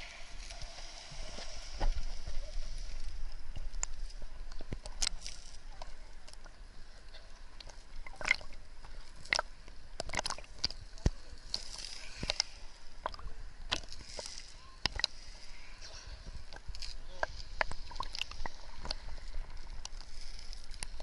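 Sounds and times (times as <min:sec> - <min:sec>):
sea water sloshing and gurgling: 0:00.0 - 0:21.0.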